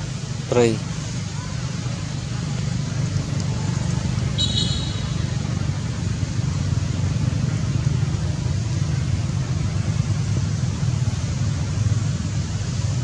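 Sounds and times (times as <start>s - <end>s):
faint hiss: 0.0s - 13.0s
steady low rumble: 0.0s - 13.0s.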